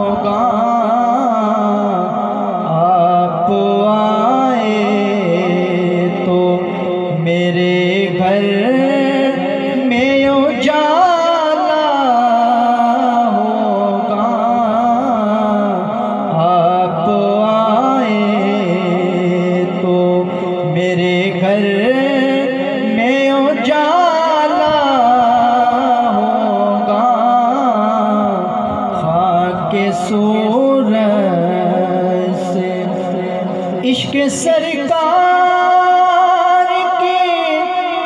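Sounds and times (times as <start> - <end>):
man singing into a microphone: 0.0 - 38.0.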